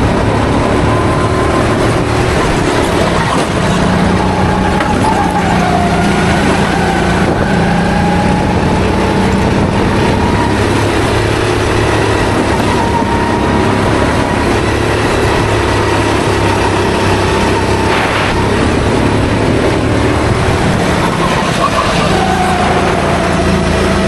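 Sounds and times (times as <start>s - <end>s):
go-kart engine at high revs: 0.0s - 24.0s
wind and track noise: 0.0s - 24.0s.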